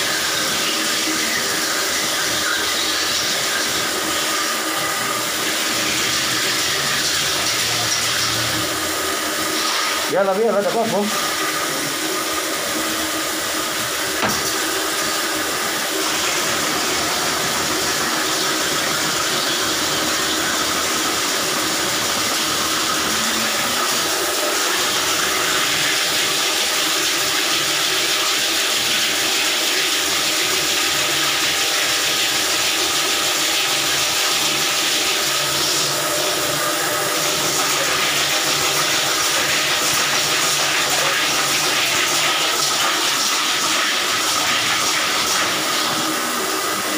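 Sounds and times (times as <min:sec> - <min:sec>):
drain-cleaning machine running: 0:00.0 - 0:46.9
hose water splashing on tile: 0:00.0 - 0:46.9.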